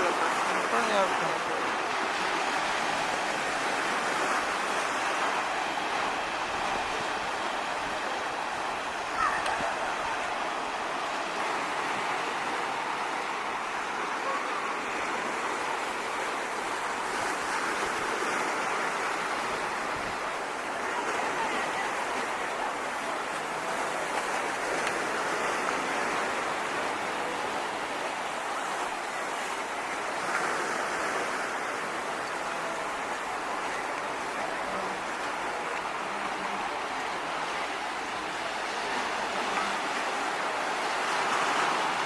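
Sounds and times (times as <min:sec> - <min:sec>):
sea waves washing: 0:00.0 - 0:42.0.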